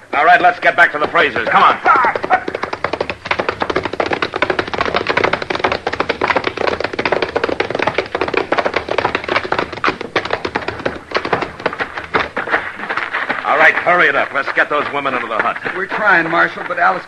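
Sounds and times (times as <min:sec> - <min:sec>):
horses galloping hoofbeats: 0:00.2 - 0:17.0.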